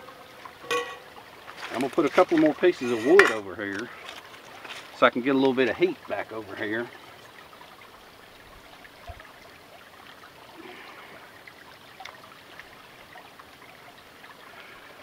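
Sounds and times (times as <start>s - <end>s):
creek trickling over rocks: 0.0s - 15.0s.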